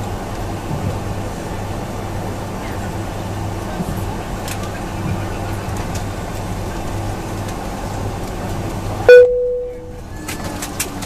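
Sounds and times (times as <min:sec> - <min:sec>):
airplane cabin hum: 0:00.0 - 0:11.0.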